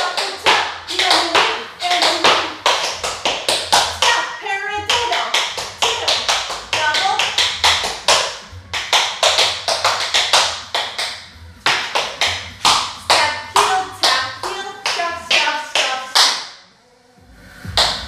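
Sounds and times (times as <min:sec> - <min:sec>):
tap shoes striking floor: 0:00.0 - 0:04.2, 0:04.9 - 0:16.5.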